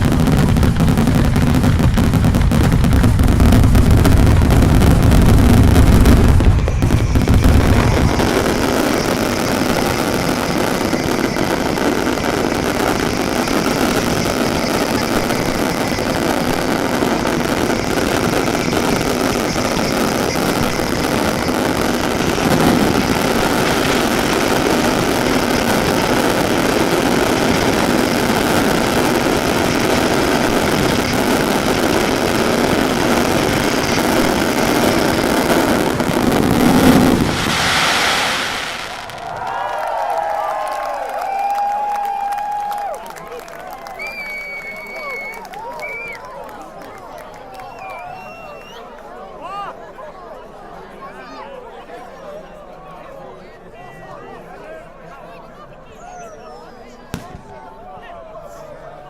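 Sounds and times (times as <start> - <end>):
firecracker barrage: 0.0 - 48.8, 57.1 - 57.9.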